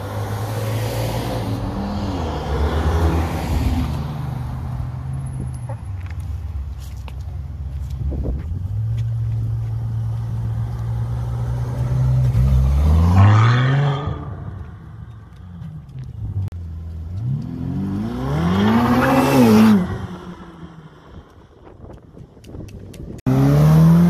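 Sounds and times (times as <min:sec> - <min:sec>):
second car engine approaching: 0:00.0 - 0:21.6.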